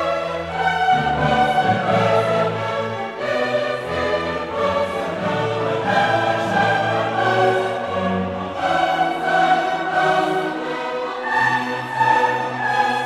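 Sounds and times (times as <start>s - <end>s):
orchestral music with long held notes: 0.0s - 13.0s.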